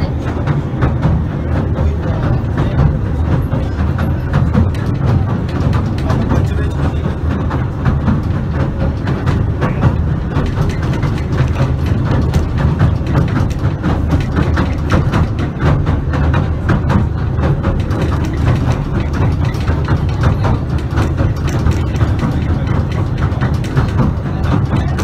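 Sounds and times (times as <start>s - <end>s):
train rumbling inside carriage: 0.0s - 25.0s
wheels rattling and clicking: 0.0s - 25.0s.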